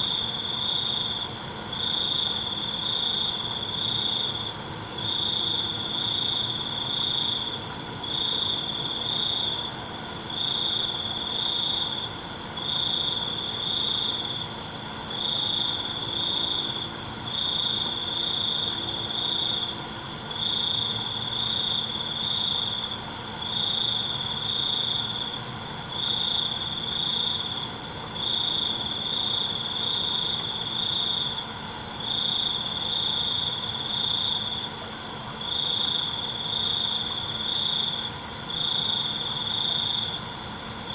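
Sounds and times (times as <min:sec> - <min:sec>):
cricket trills: 0:00.0 - 0:40.9.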